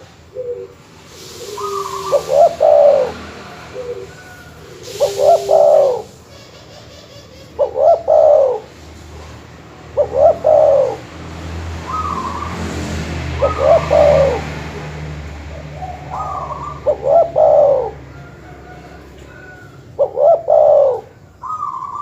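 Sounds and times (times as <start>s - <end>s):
dove cooing: 0.0s - 8.9s, 9.9s - 11.2s, 11.8s - 12.7s, 13.3s - 22.0s.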